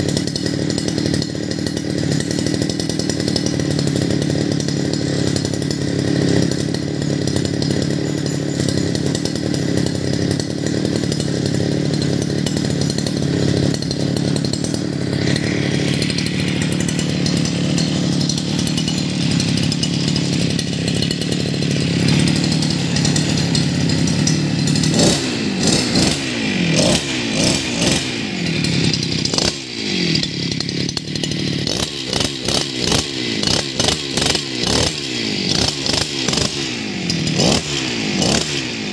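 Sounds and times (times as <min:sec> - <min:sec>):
brush cutter engine idling: 0:00.0 - 0:38.9
engine revving in throttle blips: 0:00.0 - 0:38.9.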